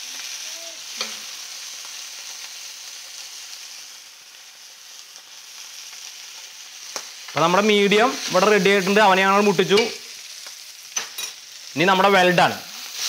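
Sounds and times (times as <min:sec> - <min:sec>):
steaks sizzling in butter: 0:00.0 - 0:13.0.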